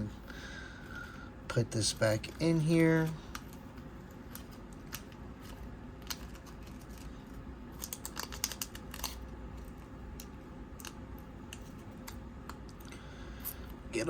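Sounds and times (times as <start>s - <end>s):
cards clicking and scraping: 2.0s - 13.7s.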